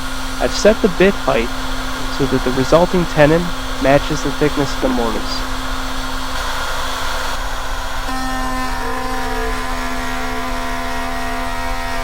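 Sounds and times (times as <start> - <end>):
router whining and cutting wood: 0.0 - 12.0.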